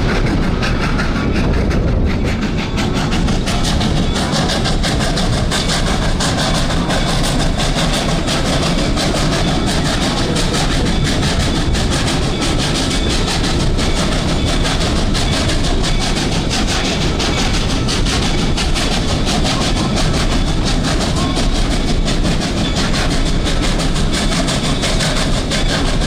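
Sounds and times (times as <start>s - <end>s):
steam train rumbling: 0.0s - 26.0s
wheels clattering on rails: 0.0s - 26.0s.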